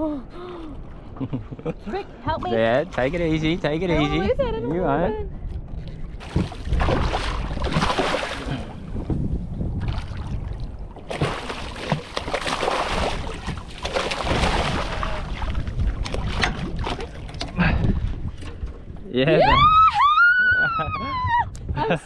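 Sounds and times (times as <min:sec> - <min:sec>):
wind gusting on microphone: 0:00.0 - 0:11.8, 0:12.6 - 0:22.0
water sloshing around boat: 0:00.7 - 0:22.0.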